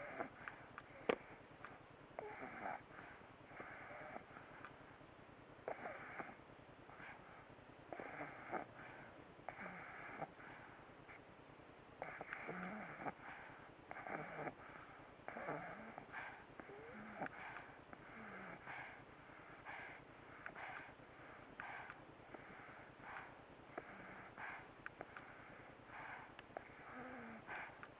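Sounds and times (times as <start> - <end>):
dog snoring: 0.0 - 1.4, 2.2 - 4.6, 5.6 - 10.7, 12.0 - 27.9.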